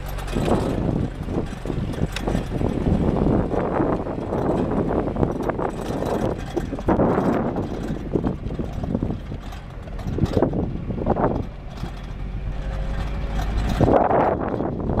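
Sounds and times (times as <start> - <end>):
jeep engine running: 0.0 - 15.0
wind and road noise: 0.0 - 15.0.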